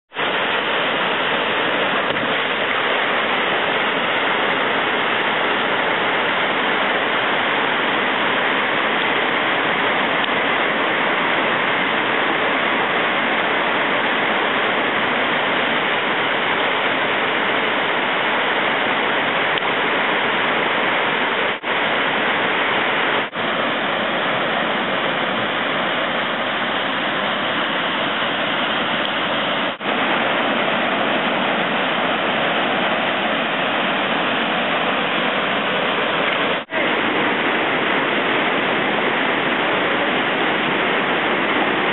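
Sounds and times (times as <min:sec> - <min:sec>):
waterfall rushing: 0:00.1 - 0:41.9.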